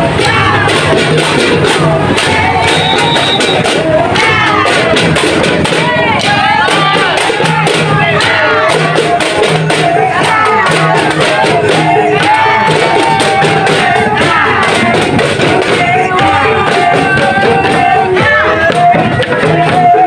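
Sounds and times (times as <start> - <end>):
handheld drums beating: 0.0 - 20.0
song with singing voice: 0.0 - 20.0.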